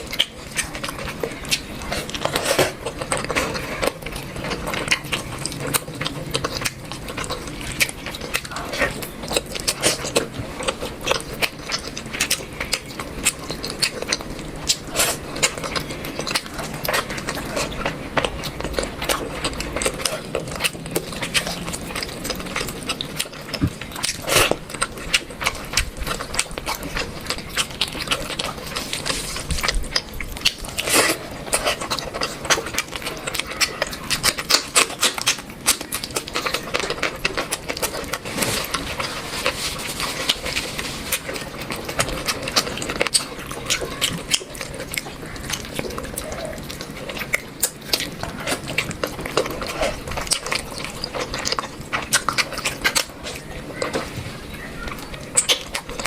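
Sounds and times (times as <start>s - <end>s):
close chewing and lip-smacking: 0.0s - 56.0s.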